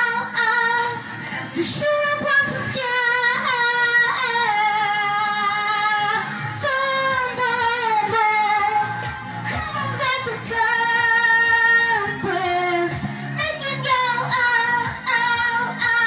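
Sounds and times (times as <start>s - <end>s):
woman singing into a microphone: 0.0s - 16.0s.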